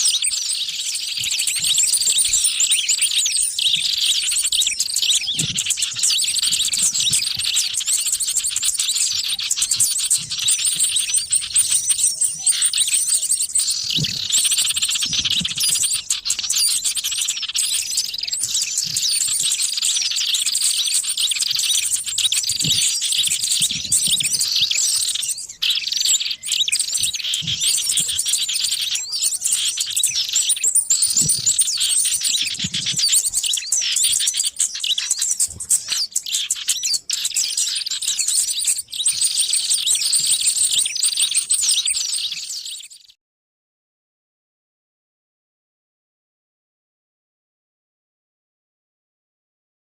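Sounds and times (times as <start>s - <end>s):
small birds chirping and twittering: 0.0s - 43.2s.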